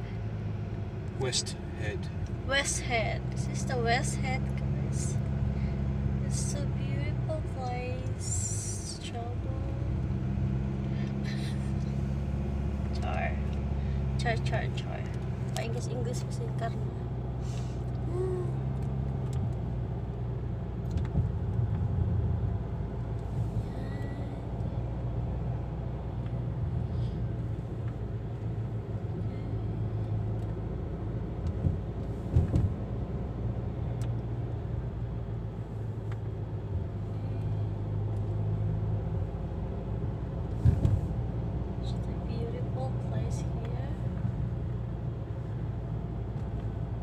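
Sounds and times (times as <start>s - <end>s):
car engine hum: 0.0s - 47.0s
tyre and road noise: 0.0s - 47.0s.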